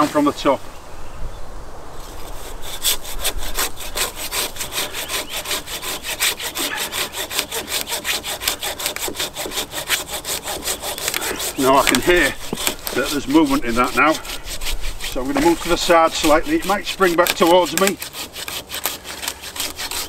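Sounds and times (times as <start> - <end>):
hand saw cutting a branch: 0.0 - 0.5, 2.0 - 20.0.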